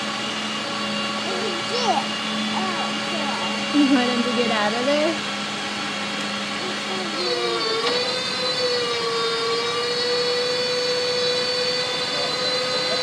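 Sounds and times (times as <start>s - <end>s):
truck engine and hydraulic whine: 0.0s - 13.0s.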